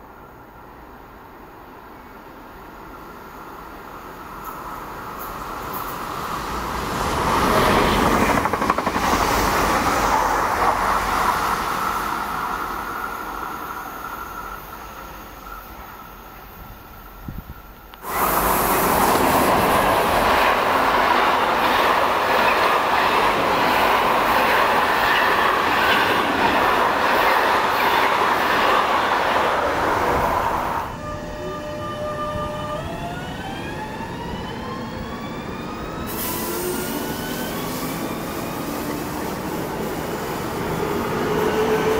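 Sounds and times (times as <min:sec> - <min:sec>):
electric train passing: 0:00.2 - 0:41.9
freight train wheels on rails: 0:02.6 - 0:41.9.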